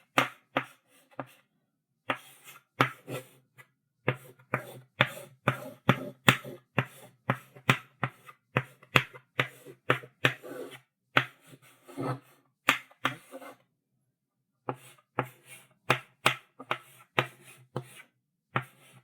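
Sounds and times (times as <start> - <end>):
chalk tapping and scratching on blackboard: 0.0 - 1.5, 2.1 - 13.7, 14.6 - 19.0.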